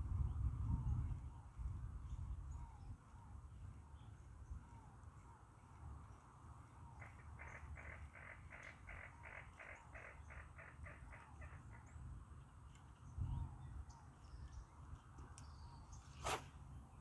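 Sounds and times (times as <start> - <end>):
low wind rumble: 0.0 - 9.3, 10.0 - 15.9
distant birds calling: 1.4 - 17.0.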